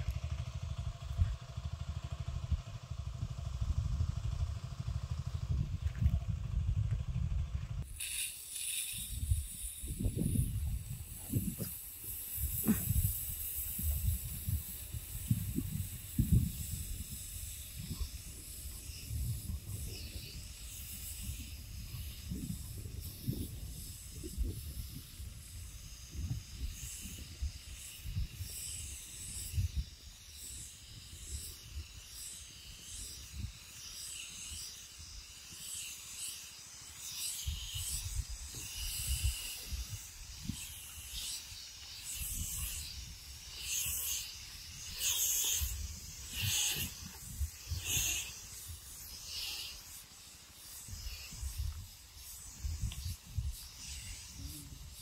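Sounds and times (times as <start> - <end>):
high-pressure spray hiss: 7.8 - 55.0.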